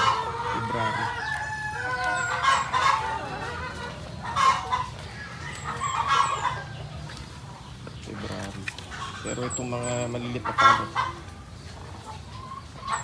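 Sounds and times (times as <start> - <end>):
chickens clucking: 0.0 - 13.0
loud chicken calls: 0.0 - 13.0.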